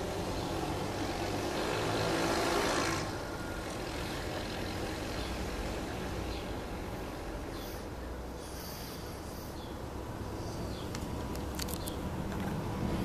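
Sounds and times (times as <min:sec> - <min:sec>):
harbour ambience rumble: 0:00.0 - 0:13.0.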